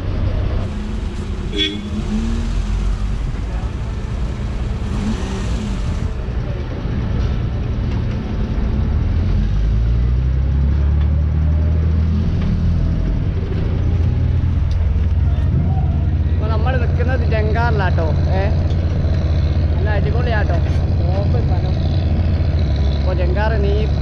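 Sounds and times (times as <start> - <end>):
ferry engine drone: 0.0 - 24.0.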